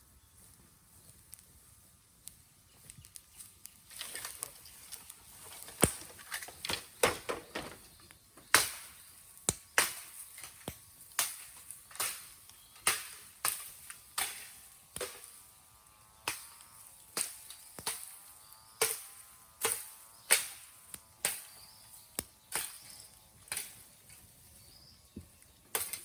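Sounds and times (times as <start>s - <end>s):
bamboo crackling and popping in fire: 0.0s - 26.0s.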